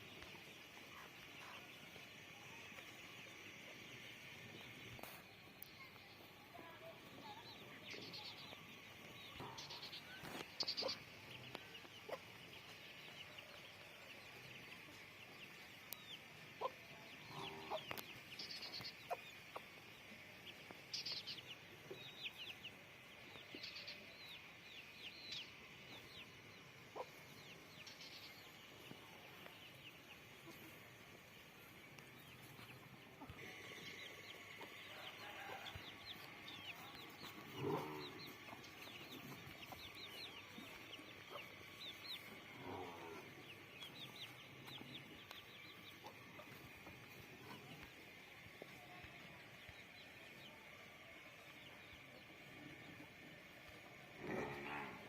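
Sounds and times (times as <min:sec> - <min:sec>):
faint chickens clucking: 0:00.1 - 0:55.0.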